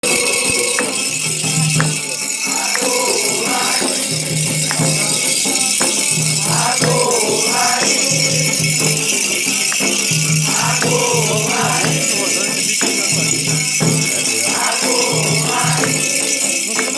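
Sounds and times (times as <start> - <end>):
drum beats: 0.0 - 16.9
shaker rattle: 0.0 - 16.9
voices singing: 0.0 - 16.9.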